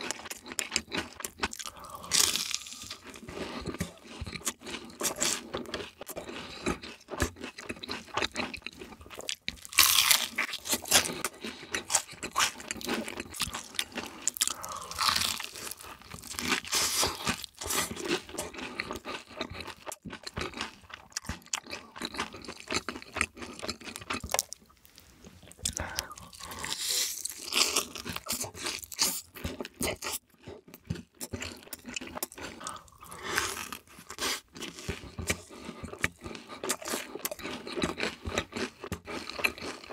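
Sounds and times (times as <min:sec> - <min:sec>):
chewing with full mouth: 0:00.0 - 0:39.9
crunching fried chicken: 0:00.0 - 0:39.9.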